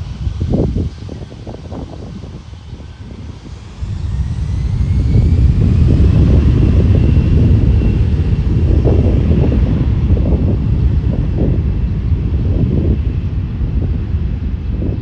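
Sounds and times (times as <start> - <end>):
airplane engines rumbling: 0.0 - 15.0
faint rising engine whine: 0.0 - 15.0.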